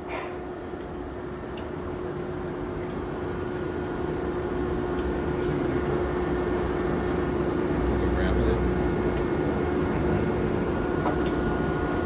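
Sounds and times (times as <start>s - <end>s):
lathe humming and whining: 0.3s - 12.0s.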